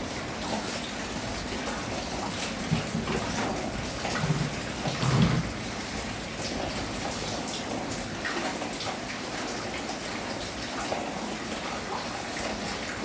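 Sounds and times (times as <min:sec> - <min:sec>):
rain drops striking a surface: 0:00.0 - 0:13.0.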